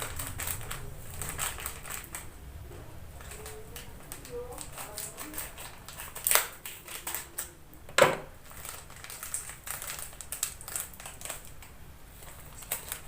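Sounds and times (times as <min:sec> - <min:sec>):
crunching and chewing crispy food: 0:00.0 - 0:02.3, 0:03.2 - 0:07.6, 0:08.4 - 0:13.0.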